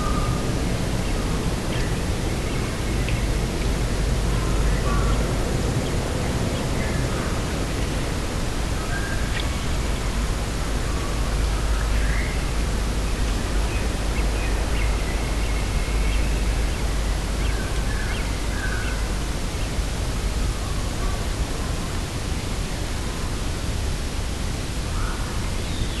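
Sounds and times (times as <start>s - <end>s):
wind with low rumble: 0.0s - 26.0s.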